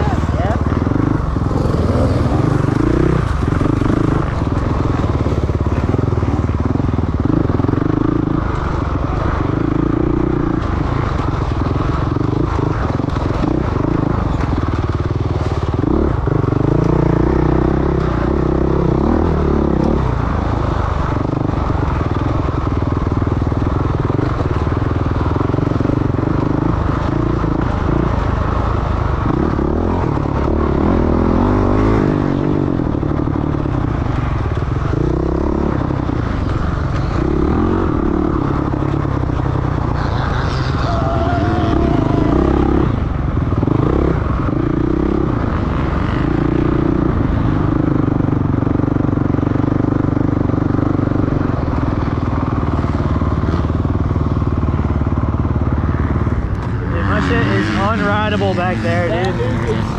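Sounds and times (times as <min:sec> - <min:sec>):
dirt bike engine revving: 0:00.0 - 0:22.4, 0:23.9 - 0:48.4, 0:49.2 - 0:59.9.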